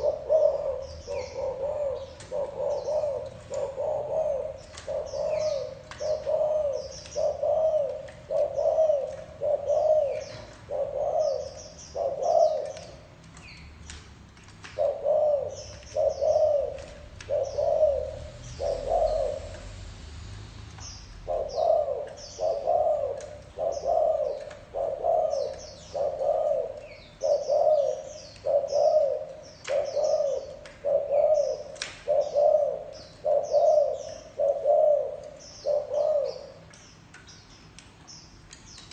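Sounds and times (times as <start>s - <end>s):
dove cooing: 0.0s - 13.1s, 14.6s - 19.7s, 21.1s - 36.6s
small birds chirping: 0.0s - 19.8s, 20.7s - 38.9s.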